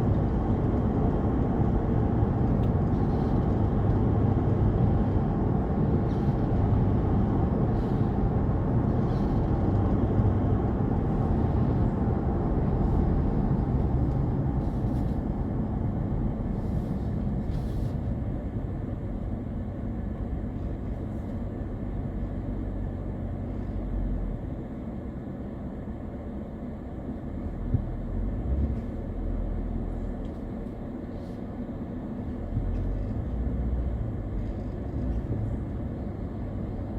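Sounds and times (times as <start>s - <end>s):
car road and wind noise: 0.0s - 36.9s.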